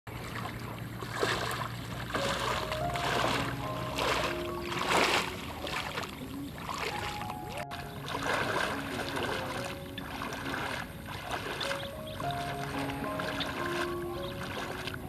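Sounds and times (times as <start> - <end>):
water sloshing as legs wade: 0.1 - 15.0
background music of held notes: 2.2 - 15.0.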